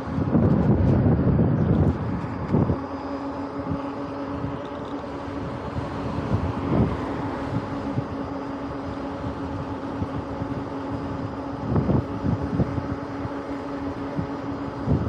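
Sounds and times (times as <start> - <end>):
low hum: 0.0 - 15.0
wind rushing over microphone: 0.0 - 15.0.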